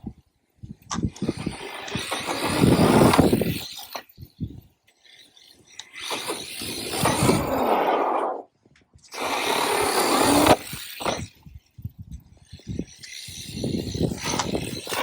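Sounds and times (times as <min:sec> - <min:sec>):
toy truck tyres crunching loose ground: 0:00.7 - 0:15.0.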